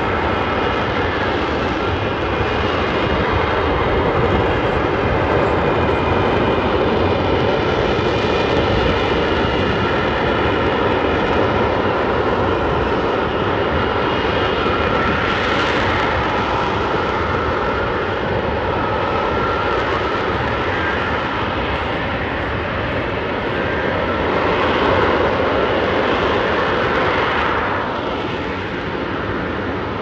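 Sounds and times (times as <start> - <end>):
fighter jet flying overhead: 0.0 - 30.0.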